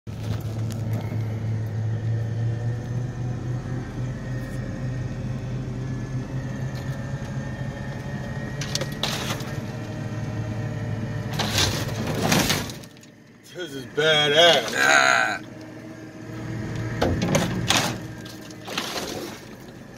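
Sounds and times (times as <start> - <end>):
vehicle engine low hum: 0.1 - 19.9.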